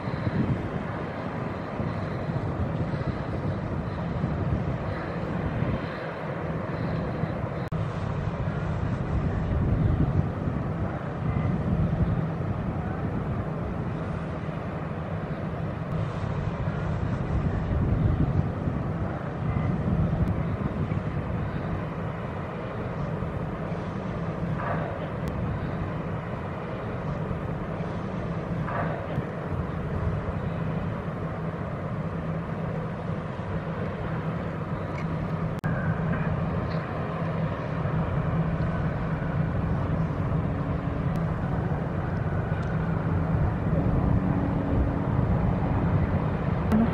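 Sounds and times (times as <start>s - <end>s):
ship engines droning: 0.0s - 46.9s.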